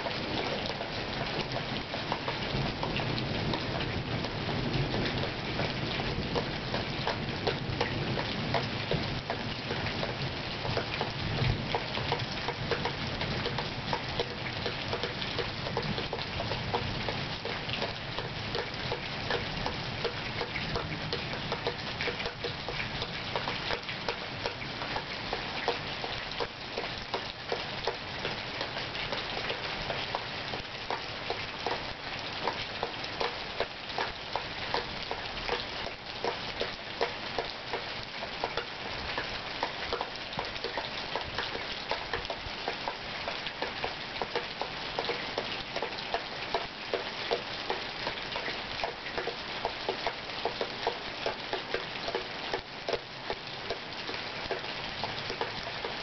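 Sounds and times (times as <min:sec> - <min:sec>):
rain falling: 0:00.0 - 0:56.0
raindrops tapping: 0:00.0 - 0:56.0.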